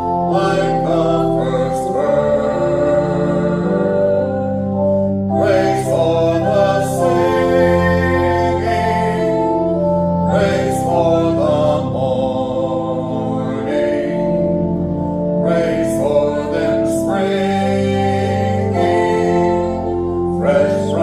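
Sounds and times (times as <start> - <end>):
hymn singing: 0.0 - 21.0
sustained instrumental chords: 0.0 - 21.0.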